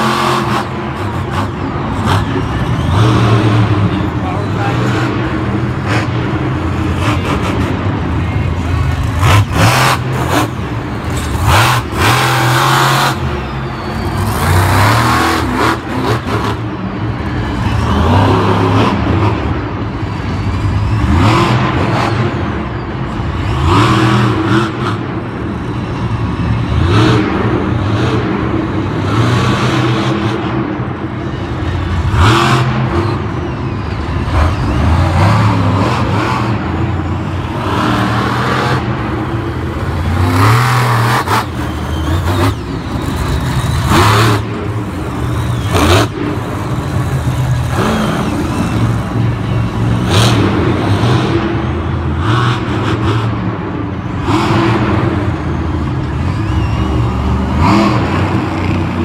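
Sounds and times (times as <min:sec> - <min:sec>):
truck engine revving hard: 0:00.0 - 0:59.0.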